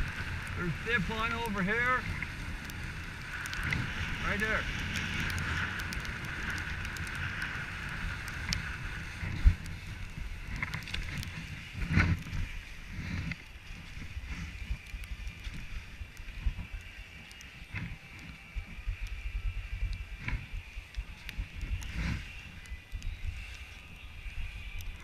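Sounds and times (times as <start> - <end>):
skis scraping on snow: 0.0 - 25.0
wind rumbling on microphone: 0.0 - 25.0.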